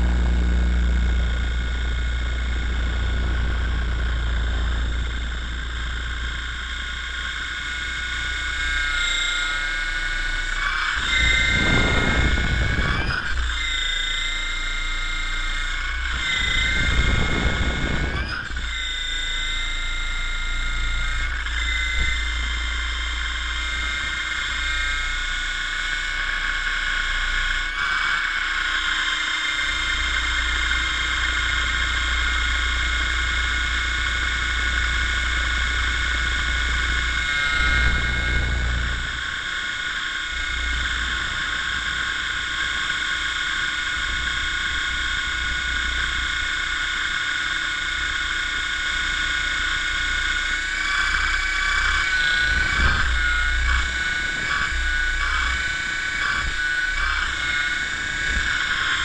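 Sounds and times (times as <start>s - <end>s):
helicopter running: 0.0s - 59.0s.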